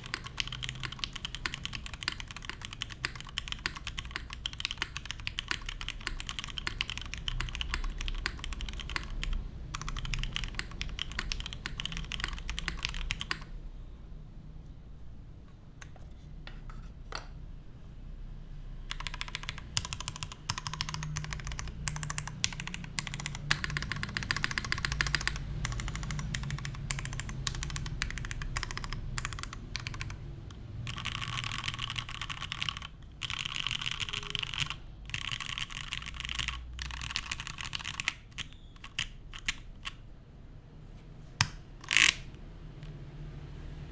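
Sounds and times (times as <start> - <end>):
mechanical keyboard typing: 0.0 - 13.6, 18.8 - 40.1, 41.4 - 43.0.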